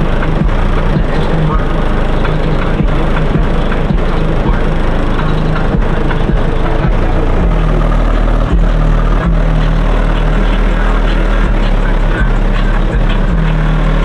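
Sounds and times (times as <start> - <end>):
rap music with distorted bass: 0.0 - 14.0.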